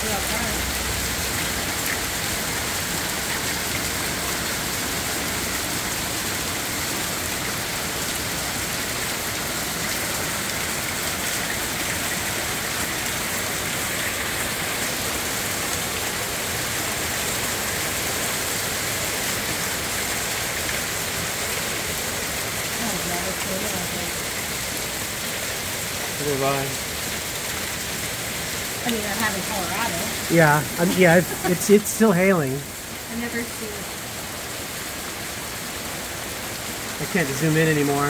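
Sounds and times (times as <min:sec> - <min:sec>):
heavy rain and hail falling: 0:00.0 - 0:38.0.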